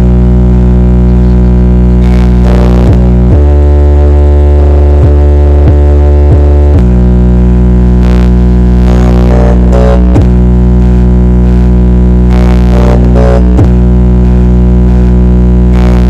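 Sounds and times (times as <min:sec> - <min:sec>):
droning synth bass tones: 0:00.0 - 0:16.0.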